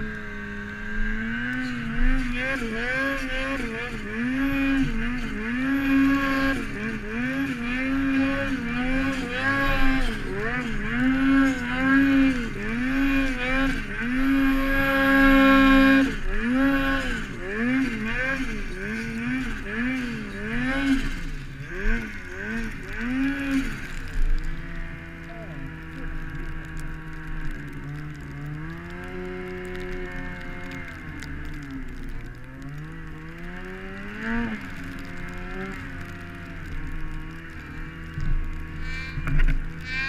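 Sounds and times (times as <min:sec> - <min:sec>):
snowmobile engine revving: 0:00.0 - 0:40.0.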